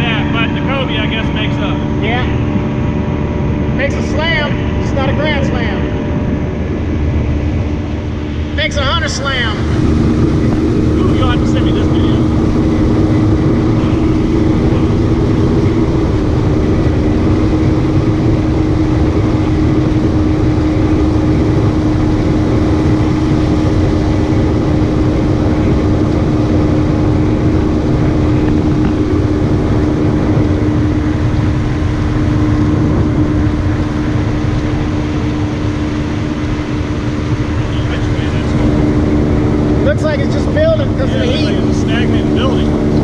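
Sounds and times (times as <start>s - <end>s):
outboard motor running: 0.0s - 43.0s
water rushing: 0.0s - 43.0s.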